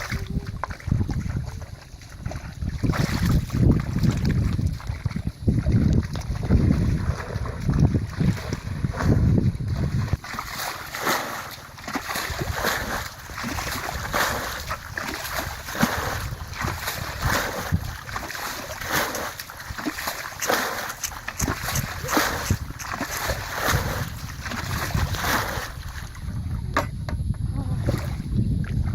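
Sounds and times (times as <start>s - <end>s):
water splashing and sloshing: 0.0s - 28.9s
wind buffeting microphone: 0.0s - 28.9s.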